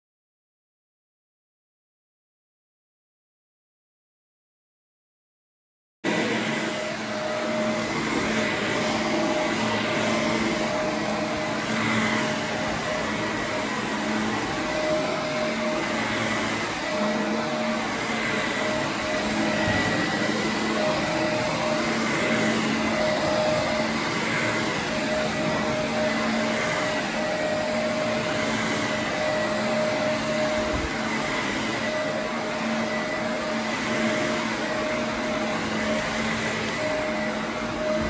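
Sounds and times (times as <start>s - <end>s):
vacuum cleaner running: 6.0s - 38.0s.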